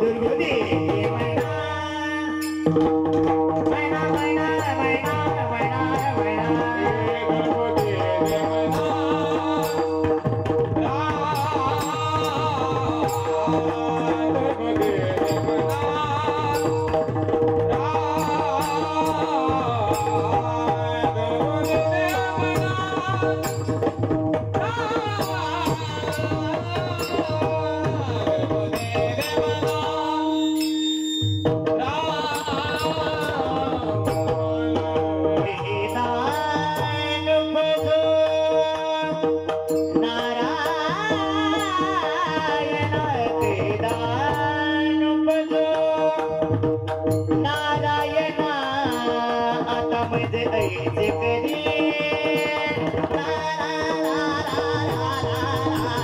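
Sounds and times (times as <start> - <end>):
drum strokes in steady rhythm: 0.0 - 56.0.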